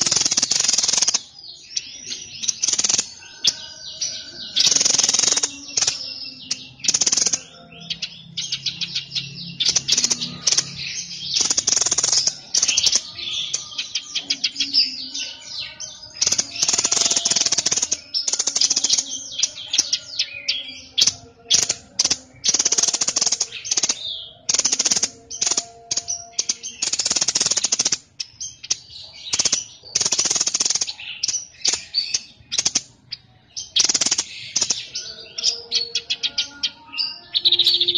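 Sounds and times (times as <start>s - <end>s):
bird clicking trills and chirps: 0.0s - 3.6s, 4.5s - 15.0s, 15.7s - 36.9s
songbird singing harsh buzzy phrases: 0.0s - 37.9s.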